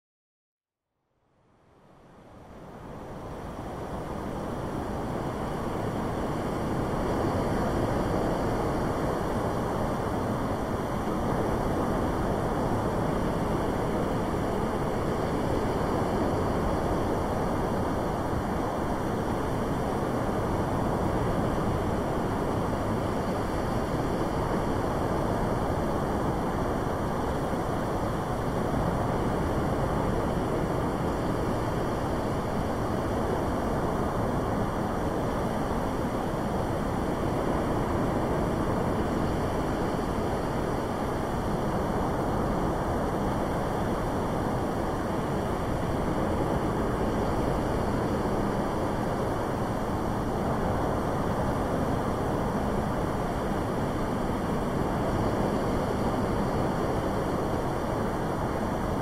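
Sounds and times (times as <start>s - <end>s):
steady rushing noise: 1.4s - 59.0s.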